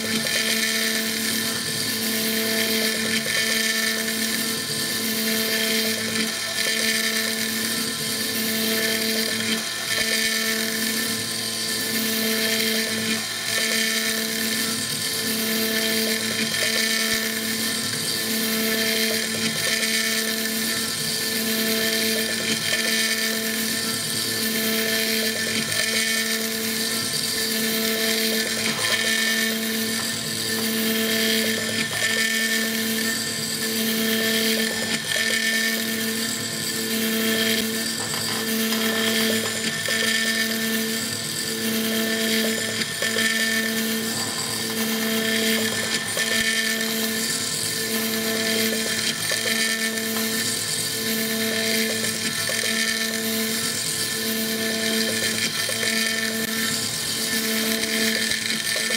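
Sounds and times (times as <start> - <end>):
mill spindle whining: 0.0 - 58.9.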